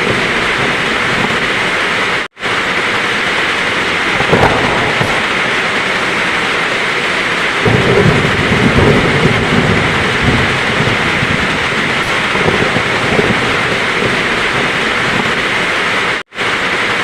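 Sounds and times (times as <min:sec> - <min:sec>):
low roll of thunder: 0:00.0 - 0:16.2
heavy rain pouring: 0:00.0 - 0:17.0.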